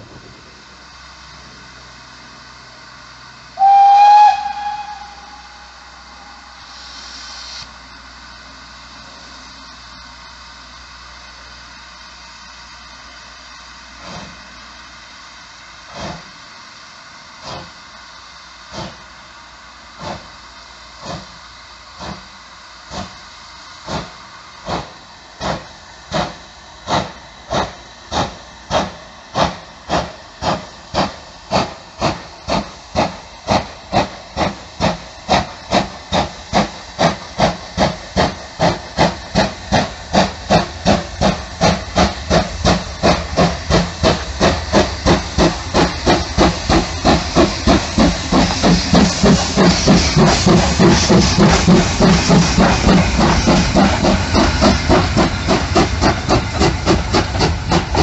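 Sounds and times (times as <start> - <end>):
steam hiss: 0.0 - 58.0
steam locomotive exhaust beats: 0.0 - 58.0.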